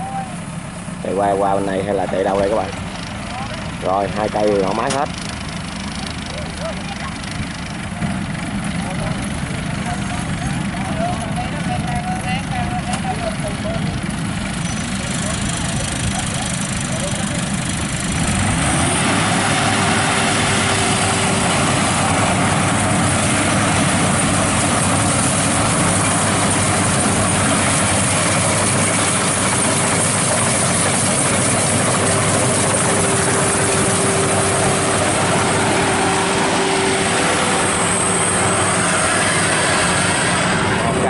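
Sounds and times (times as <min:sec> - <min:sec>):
combine harvester engine running: 0:00.0 - 0:41.0
steady machine whine: 0:00.0 - 0:41.0.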